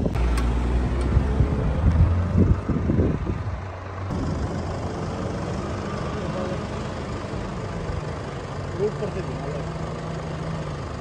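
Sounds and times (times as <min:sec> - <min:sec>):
vehicle engine driving through sand: 0:00.0 - 0:11.0.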